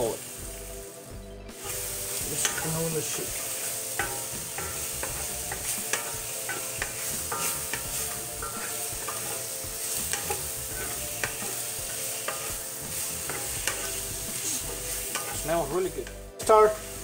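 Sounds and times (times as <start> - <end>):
chicken sizzling in oil: 0.0 - 17.0
wooden spatula scraping pan: 1.6 - 15.6.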